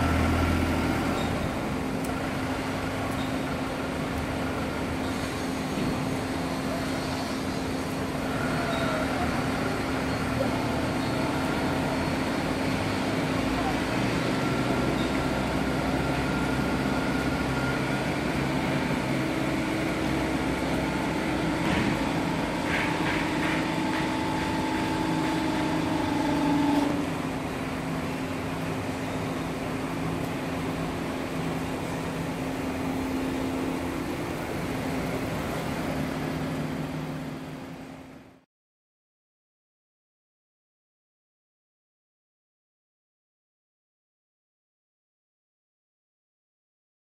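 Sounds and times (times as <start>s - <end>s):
machinery humming: 0.0s - 38.4s.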